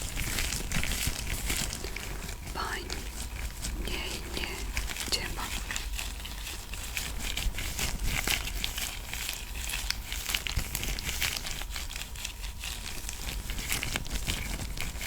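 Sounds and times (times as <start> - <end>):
crinkly rubbing on microphone: 0.0 - 15.0.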